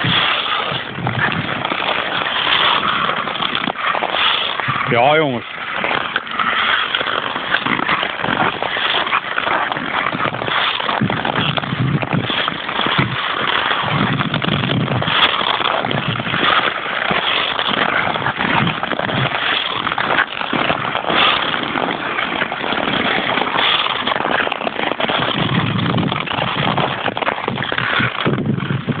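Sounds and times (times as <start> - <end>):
ice skate blades scraping ice: 0.0 - 29.0.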